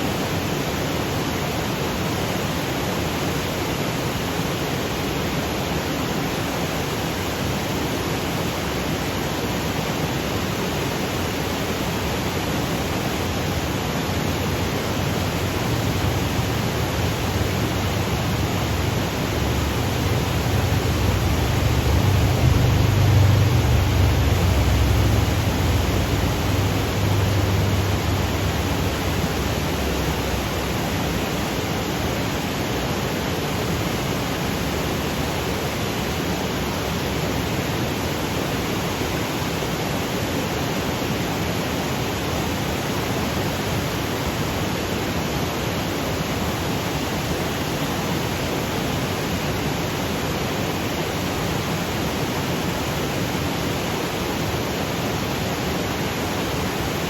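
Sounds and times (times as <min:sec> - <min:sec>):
waterfall rushing hiss: 0:00.0 - 0:57.0.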